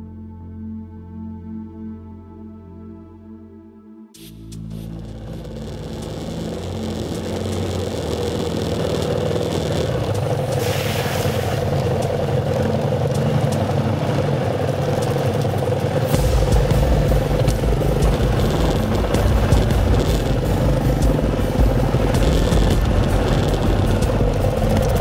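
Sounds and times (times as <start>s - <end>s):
motorcycle engine running: 4.3s - 25.0s.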